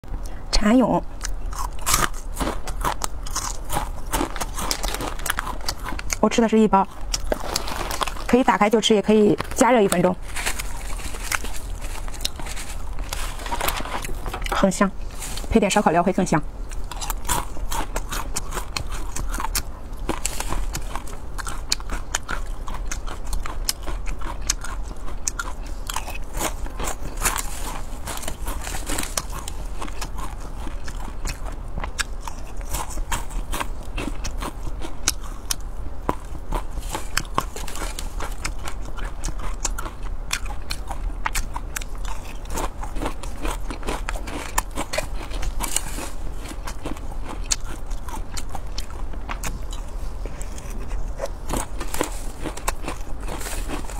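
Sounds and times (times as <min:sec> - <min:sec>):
chewing and crunching: 0:00.1 - 0:53.9.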